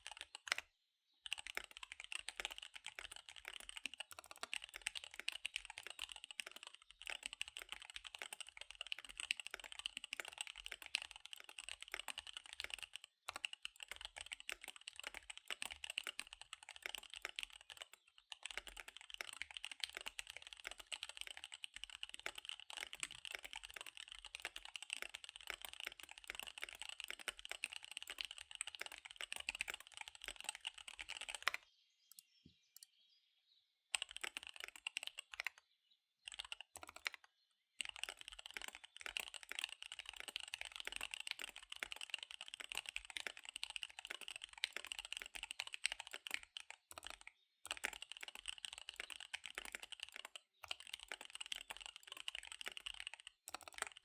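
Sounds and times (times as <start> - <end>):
fast typing on mechanical keyboard: 0.0 - 0.6, 1.2 - 31.6, 33.9 - 35.6, 36.2 - 54.0.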